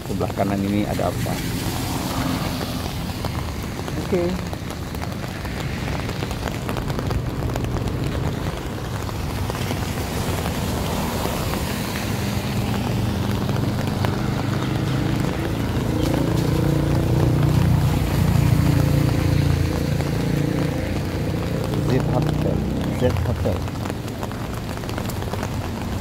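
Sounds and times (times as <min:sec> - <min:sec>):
car engine running close by: 0:00.0 - 0:26.0
passing cars on wet road: 0:00.0 - 0:26.0.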